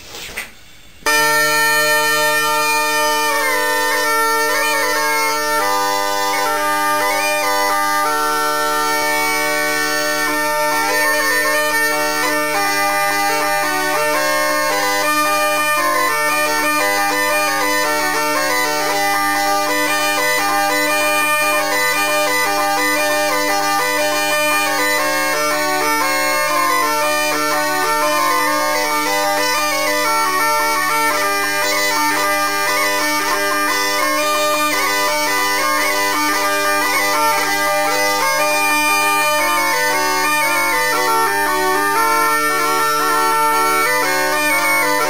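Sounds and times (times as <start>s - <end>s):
bagpipe drones and melody: 1.0s - 45.0s.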